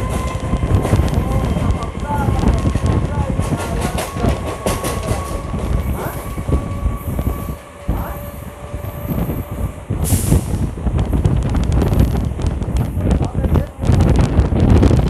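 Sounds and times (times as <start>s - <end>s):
train rumbling: 0.0s - 15.0s
wind on microphone: 0.0s - 15.0s.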